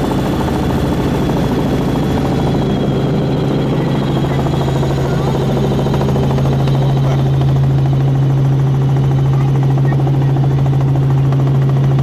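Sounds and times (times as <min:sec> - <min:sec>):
helicopter rotor drone: 0:00.0 - 0:12.0.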